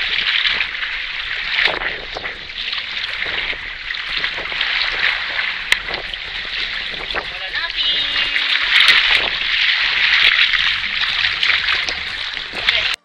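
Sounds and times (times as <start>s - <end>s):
water lapping: 0.0s - 13.0s
wind noise on microphone: 0.0s - 13.0s.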